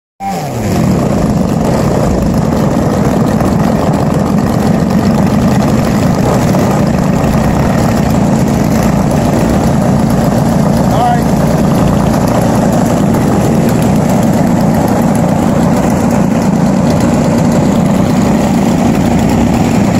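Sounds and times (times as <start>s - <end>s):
model plane engines running: 0.5s - 19.9s.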